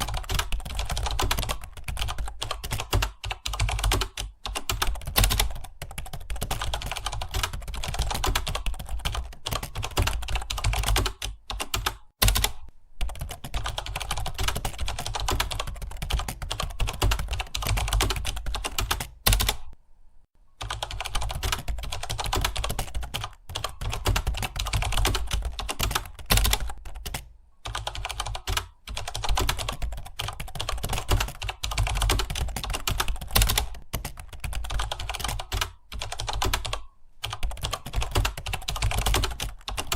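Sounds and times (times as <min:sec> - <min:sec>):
fast keyboard typing: 0:00.0 - 0:19.8, 0:20.6 - 0:39.9.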